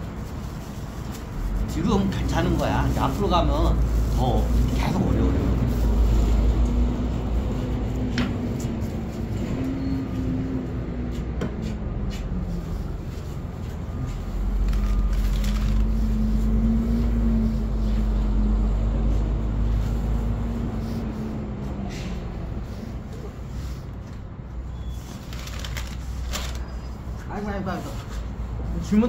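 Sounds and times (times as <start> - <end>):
vehicle engine hum: 0.0 - 27.3
deep traffic rumble: 0.0 - 29.0.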